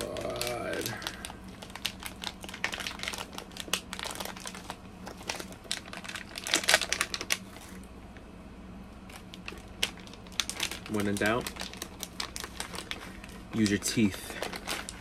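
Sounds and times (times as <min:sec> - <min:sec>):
plastic film crinkling: 0:00.0 - 0:07.8, 0:09.1 - 0:15.0.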